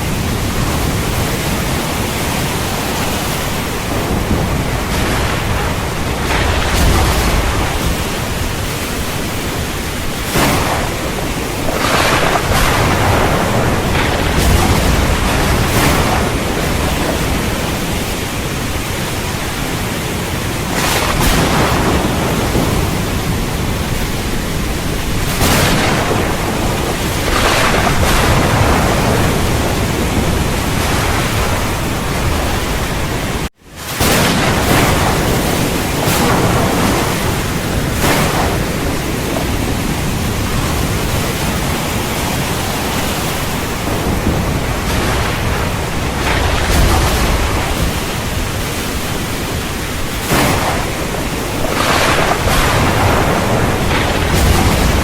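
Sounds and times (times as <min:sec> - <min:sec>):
deep thunder rumbling: 0:00.0 - 0:55.0
heavy rain pouring: 0:00.0 - 0:55.0.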